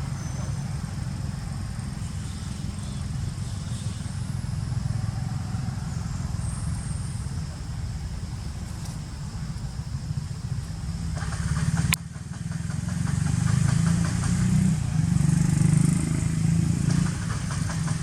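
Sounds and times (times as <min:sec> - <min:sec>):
motor engine running: 0:00.0 - 0:18.0.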